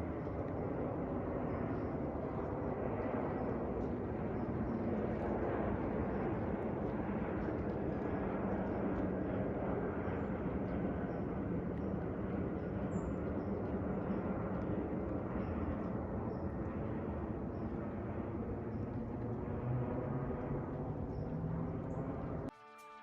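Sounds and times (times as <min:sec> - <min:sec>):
airplane flying over: 0:00.0 - 0:23.0.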